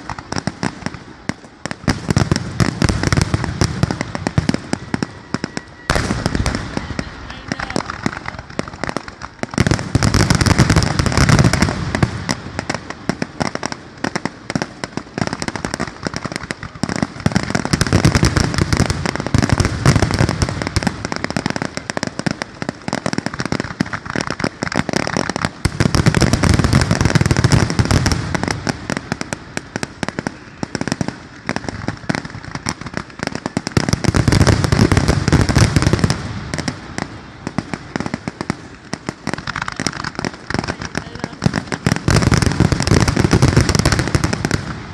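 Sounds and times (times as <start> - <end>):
deep fireworks booms: 0.0 - 44.9
fireworks bangs and crackle: 0.0 - 44.9.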